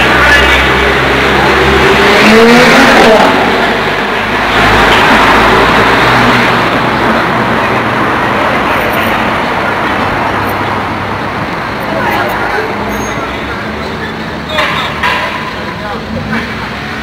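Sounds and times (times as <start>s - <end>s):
car engine echoing in tunnel: 0.0s - 17.0s
traffic noise: 0.0s - 17.0s.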